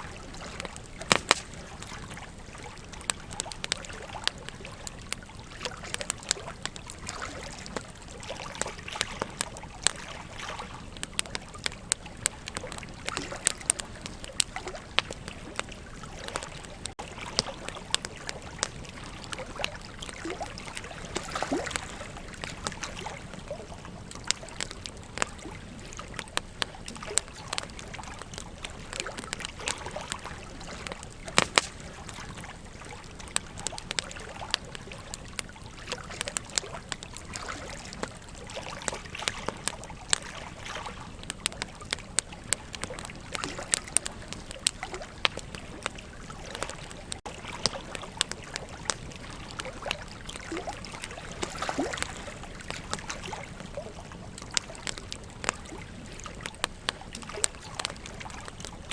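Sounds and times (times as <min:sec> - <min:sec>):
campfire crackling and popping: 0:00.0 - 0:58.9.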